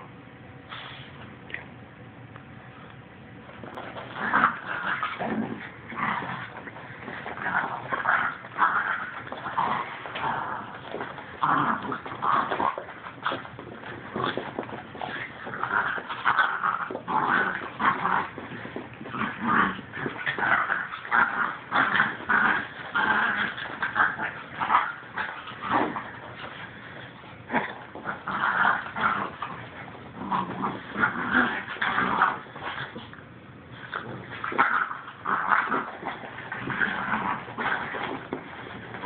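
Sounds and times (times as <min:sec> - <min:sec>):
dogs growling: 0:03.6 - 0:39.0.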